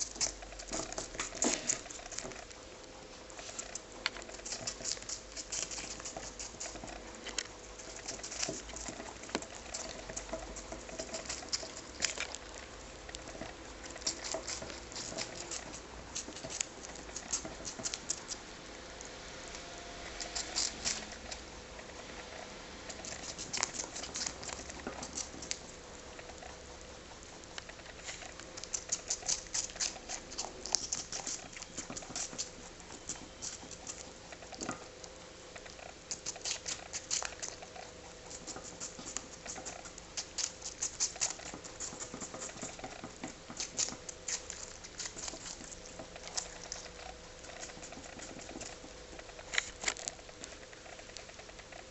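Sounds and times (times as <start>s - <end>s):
rabbits crunching apple: 0.0s - 51.9s.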